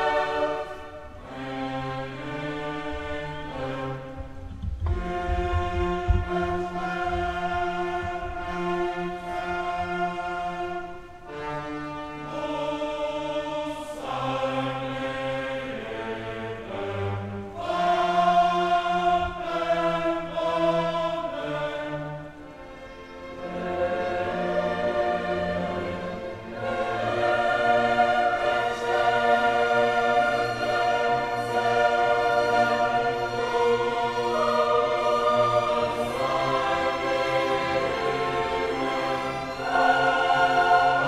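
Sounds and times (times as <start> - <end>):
choir singing held chords: 0.0 - 41.0
orchestral backing: 0.0 - 41.0.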